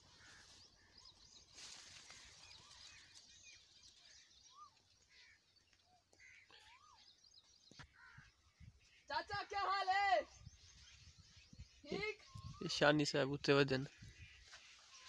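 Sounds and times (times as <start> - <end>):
faint bird chirps: 0.0 - 13.2, 13.8 - 15.0.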